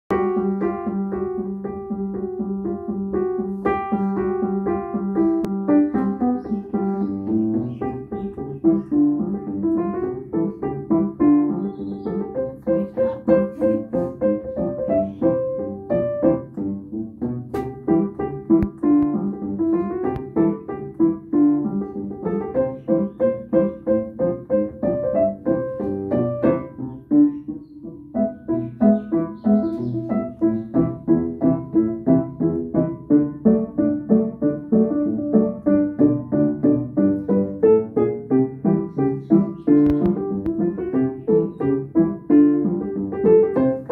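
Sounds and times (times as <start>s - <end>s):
solo ragtime piano: 0.1s - 43.9s.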